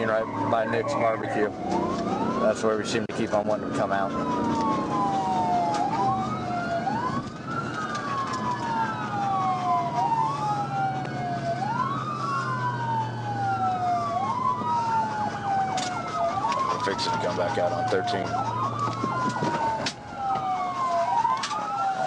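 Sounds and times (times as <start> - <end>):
police siren wailing: 0.0 - 22.0
low engine hum: 3.4 - 21.7.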